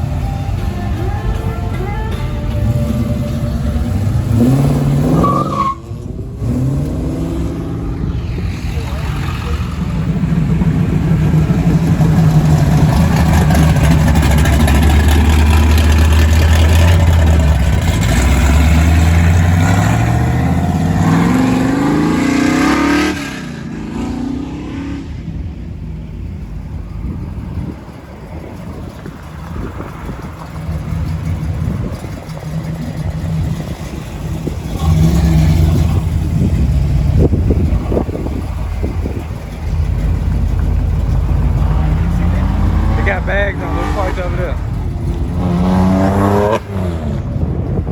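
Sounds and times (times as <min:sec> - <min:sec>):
car engine revving: 0:02.4 - 0:47.9.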